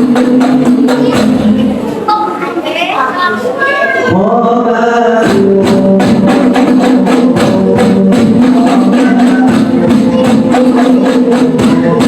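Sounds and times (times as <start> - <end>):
frame drums beaten fast: 0.0 - 1.9, 4.0 - 12.0.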